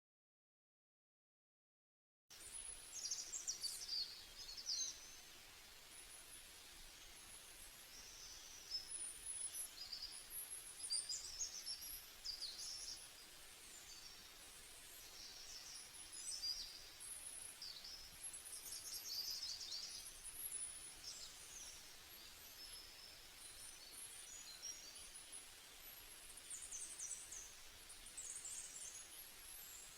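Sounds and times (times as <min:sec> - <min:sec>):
small birds chirping: 0:02.3 - 0:29.9.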